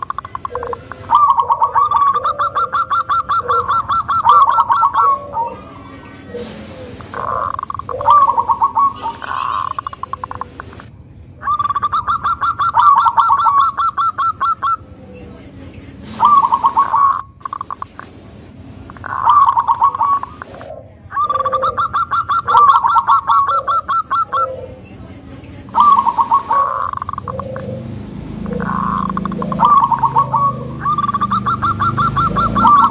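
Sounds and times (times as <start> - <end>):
soft low dove coos: 0.0 - 15.4, 16.0 - 18.0, 19.0 - 25.0, 25.7 - 32.9
dove calling in staccato notes: 0.0 - 32.9.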